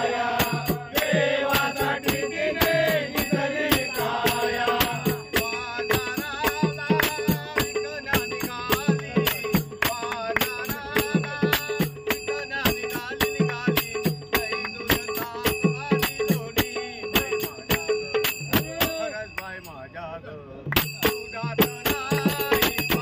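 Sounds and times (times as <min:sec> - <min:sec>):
hand drum beating: 0:00.0 - 0:19.0
hand cymbals ringing: 0:00.0 - 0:20.1, 0:20.7 - 0:23.0.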